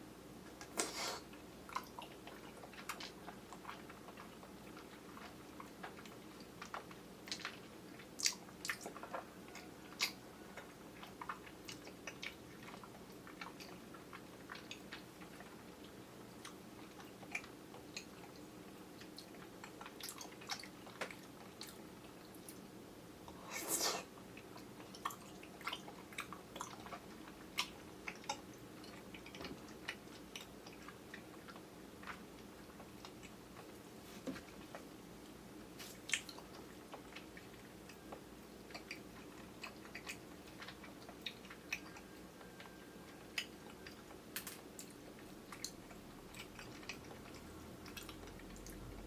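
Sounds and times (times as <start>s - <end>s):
chewing with wet squishes: 0.4s - 49.0s.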